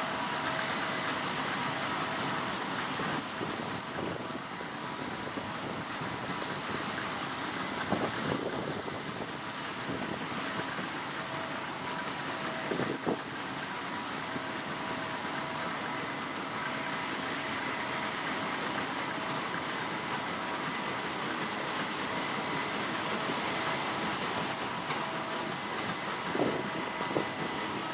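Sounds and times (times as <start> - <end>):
combine harvester droning: 0.0 - 27.9.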